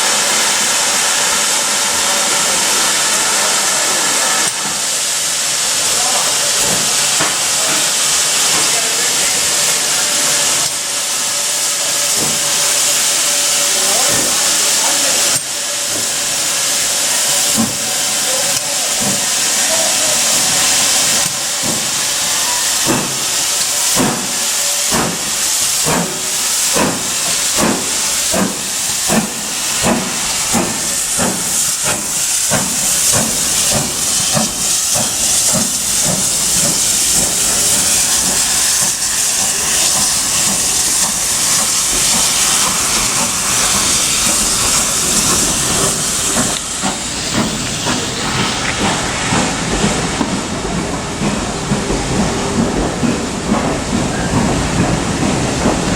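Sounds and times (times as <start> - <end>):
loud steam hiss: 0.0 - 55.9
steam locomotive chuffing: 0.0 - 55.9.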